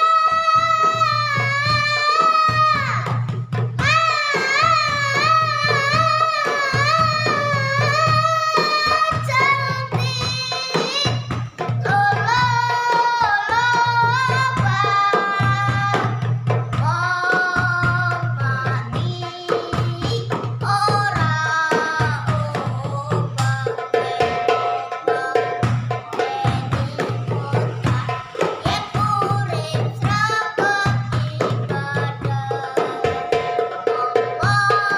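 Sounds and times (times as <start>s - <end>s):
boy singing in a high voice: 0.0s - 34.9s
hand-drum percussion: 0.0s - 34.9s.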